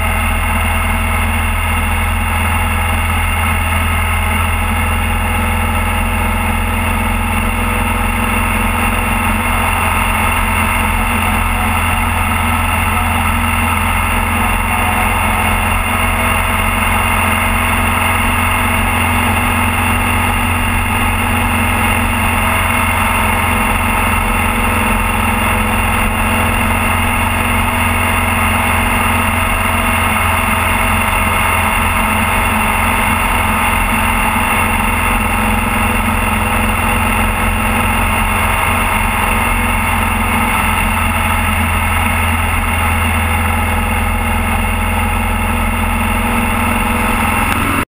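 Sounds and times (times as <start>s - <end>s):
motorcycle engine cruising: 0.0s - 47.9s
road noise: 0.0s - 47.9s.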